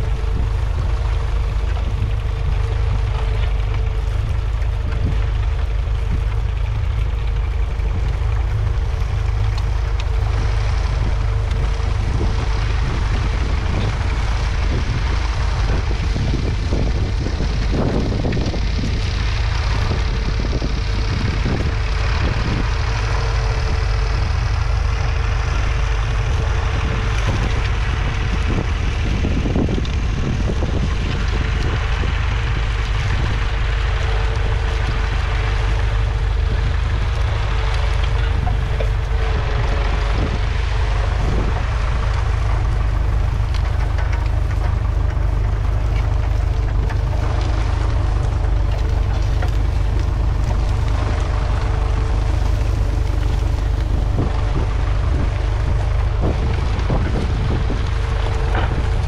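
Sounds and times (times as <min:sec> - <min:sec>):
tractor diesel engine running: 0:00.0 - 0:59.0
wind noise on microphone: 0:00.0 - 0:59.0.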